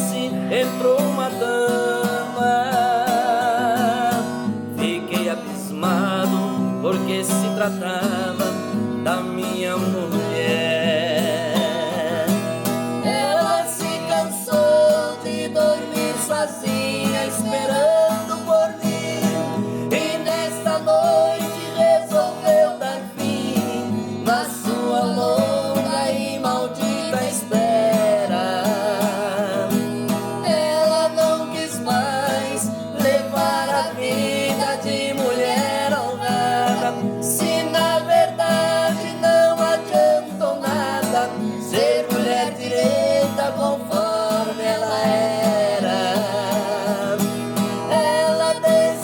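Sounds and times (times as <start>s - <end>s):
strummed acoustic guitar: 0.0s - 49.0s.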